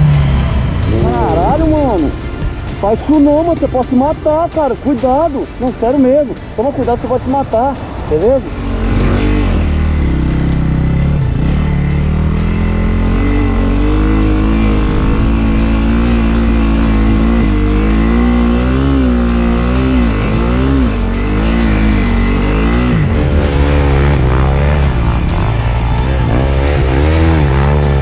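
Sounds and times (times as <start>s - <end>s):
engine revving: 0.0s - 28.0s
steady low drone: 0.0s - 28.0s.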